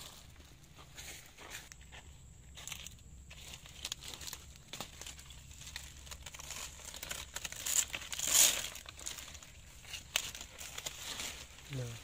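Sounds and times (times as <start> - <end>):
stiff leaves rustling and crackling: 0.0 - 1.7, 2.5 - 12.0.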